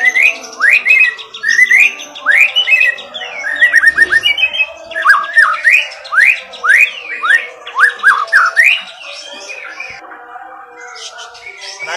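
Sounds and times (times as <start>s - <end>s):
songbird whistling and trilling: 0.0s - 10.0s.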